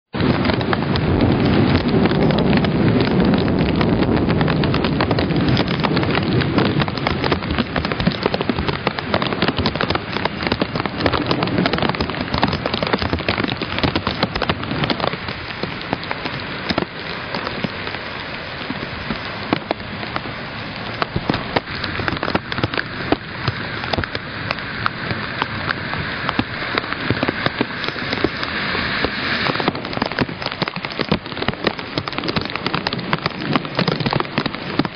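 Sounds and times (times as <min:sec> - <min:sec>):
torrential rain pouring: 0:00.1 - 0:34.9
deep thunder rumble: 0:00.2 - 0:34.9.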